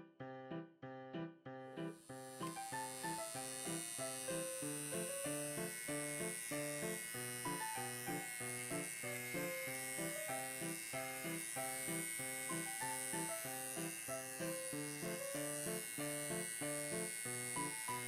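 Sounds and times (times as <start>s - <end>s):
pet clipper buzzing: 1.9s - 18.0s.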